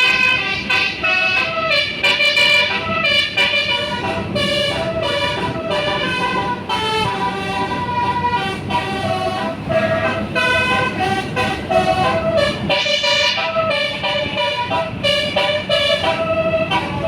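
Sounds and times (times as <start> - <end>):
bus horn playing melody: 0.0 - 17.0.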